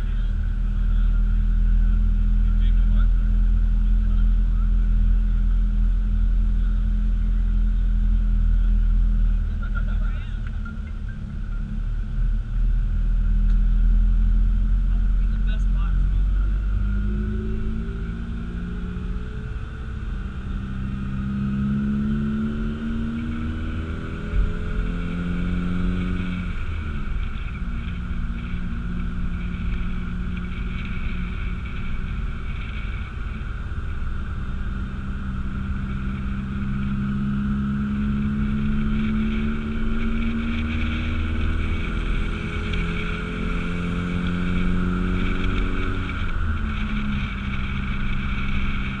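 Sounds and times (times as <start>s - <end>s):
car engine driving slowly: 0.0s - 49.0s.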